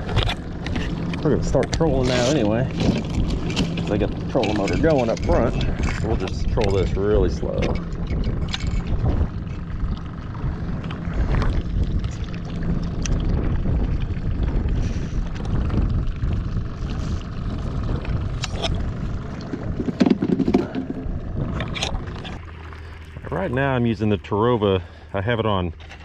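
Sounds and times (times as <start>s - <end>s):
wind rumbling on microphone: 0.0s - 24.9s
water lapping against boat hull: 0.0s - 26.0s.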